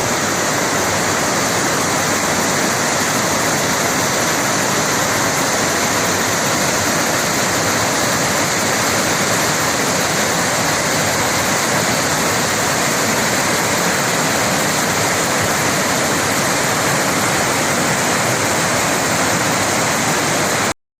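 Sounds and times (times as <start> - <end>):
water rushing from waterfall: 0.0 - 20.8.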